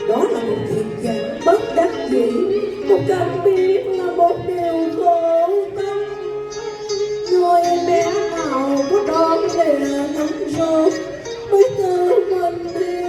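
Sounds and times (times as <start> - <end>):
folk opera singing with accompaniment: 0.0 - 6.6, 7.3 - 13.0.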